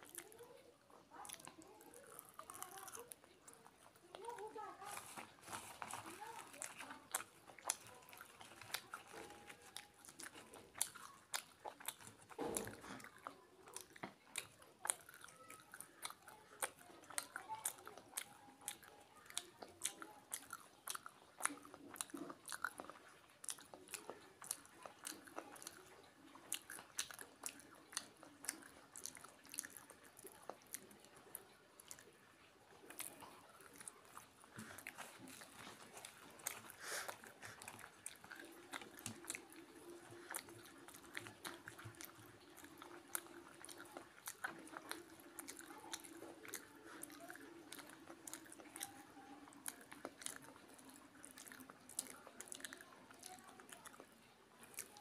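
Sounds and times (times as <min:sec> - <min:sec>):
close-up chewing with wet clicks: 0:00.0 - 0:55.0.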